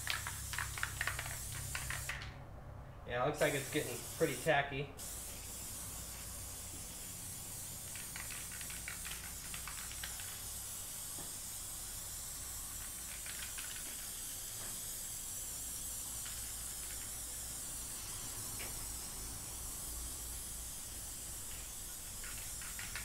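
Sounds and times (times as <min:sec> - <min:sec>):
aerosol can hissing: 0:00.0 - 0:02.2, 0:03.4 - 0:23.0.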